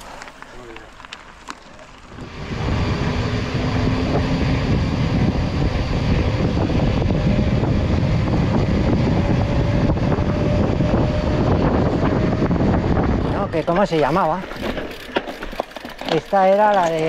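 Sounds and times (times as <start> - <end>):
bike tyres rumbling: 0.0 - 17.0
wind buffeting microphone: 2.1 - 17.0.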